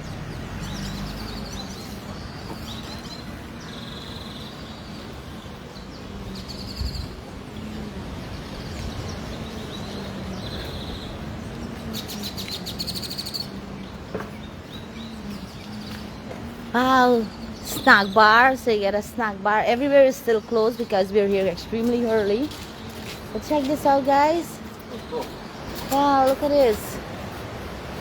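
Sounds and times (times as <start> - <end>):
birds chirping and calling: 0.0 - 27.7.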